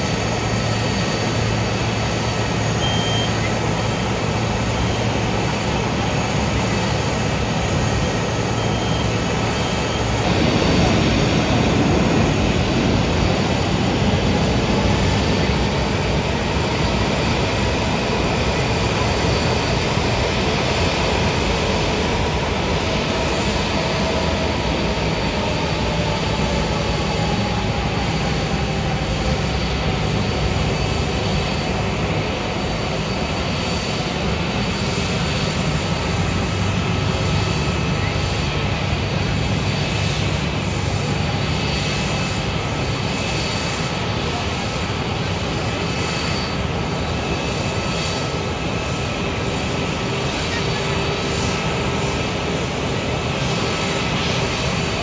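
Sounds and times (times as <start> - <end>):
jet engines rumbling at low thrust: 0.0 - 55.0.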